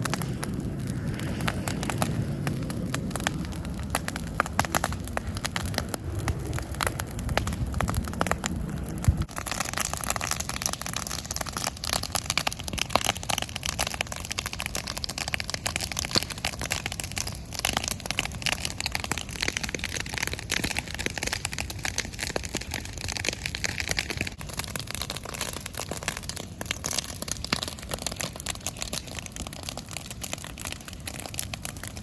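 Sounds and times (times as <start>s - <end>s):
dry grass burning and crackling: 0.0s - 32.0s.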